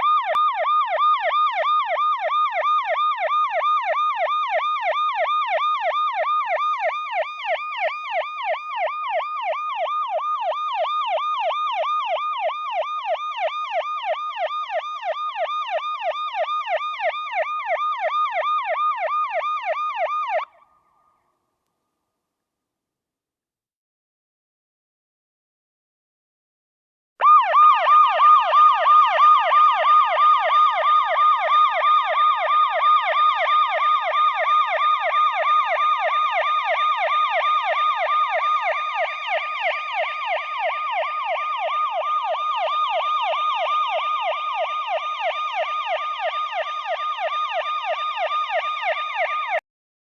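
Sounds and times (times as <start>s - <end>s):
fire engine siren yelping: 0.0s - 20.8s, 27.2s - 49.6s.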